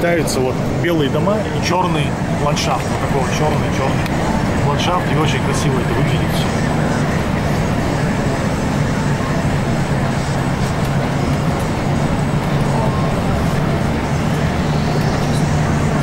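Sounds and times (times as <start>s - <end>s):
bus engine drone: 0.0s - 16.0s
tyres on road: 0.0s - 16.0s.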